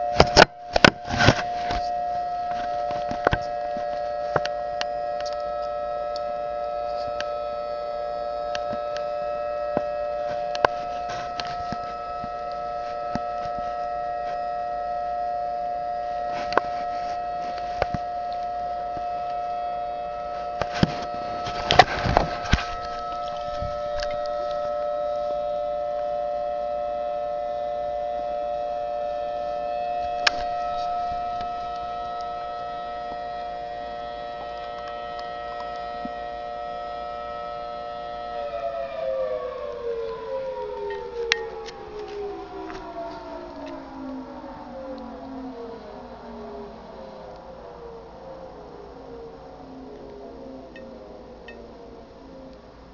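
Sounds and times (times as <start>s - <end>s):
two-note siren: 0.0s - 52.9s.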